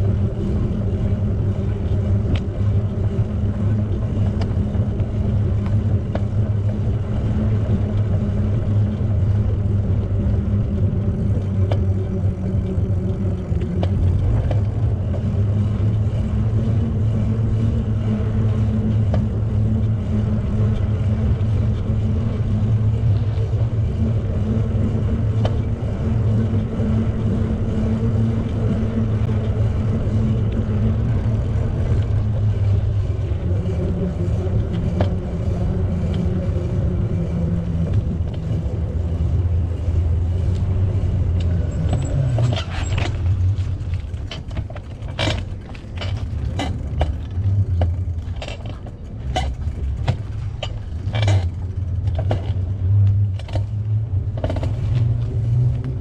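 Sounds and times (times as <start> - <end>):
moving vehicle drone: 0.0 - 56.0.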